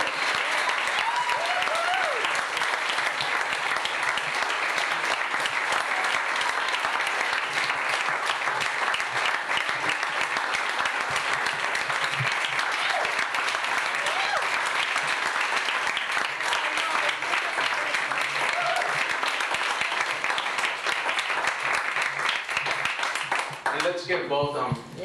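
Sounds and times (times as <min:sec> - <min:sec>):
audience applauding: 0:00.0 - 0:24.8.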